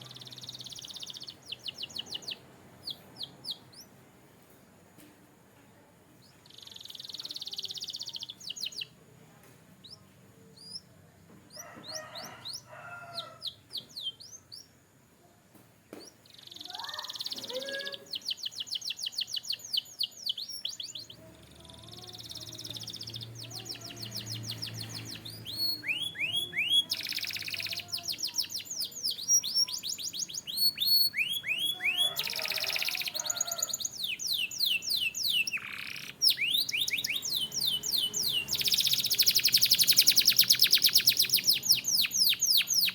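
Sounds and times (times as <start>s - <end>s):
canary singing: 0.0s - 4.0s, 6.2s - 9.1s, 9.8s - 14.9s, 15.9s - 42.9s.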